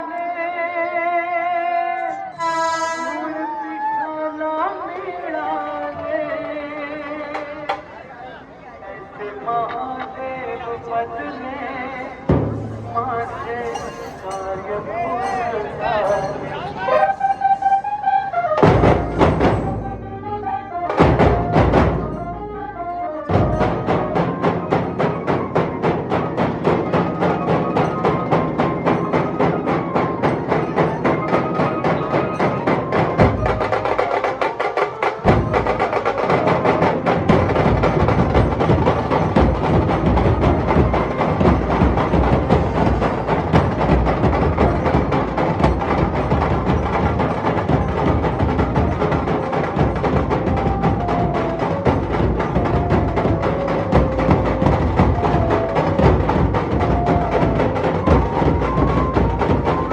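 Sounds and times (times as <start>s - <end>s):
drum ensemble playing: 2.4s - 3.3s, 12.2s - 59.9s.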